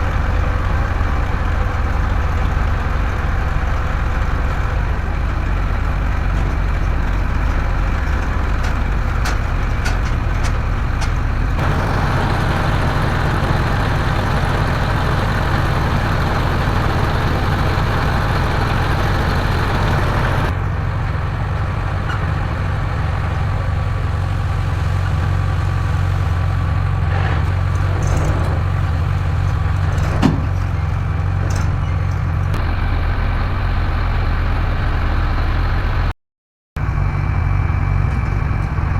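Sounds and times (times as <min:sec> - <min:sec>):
heavy diesel machinery engine: 0:00.0 - 0:36.1, 0:36.8 - 0:38.9.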